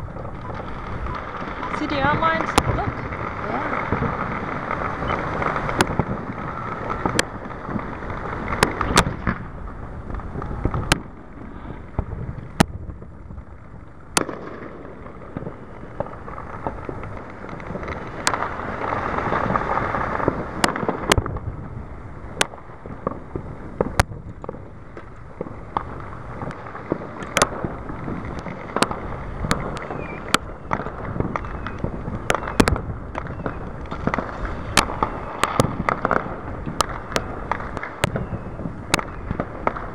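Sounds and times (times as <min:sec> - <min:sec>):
background rumble: 0:00.0 - 0:39.9
fireworks bangs and pops: 0:00.0 - 0:39.9.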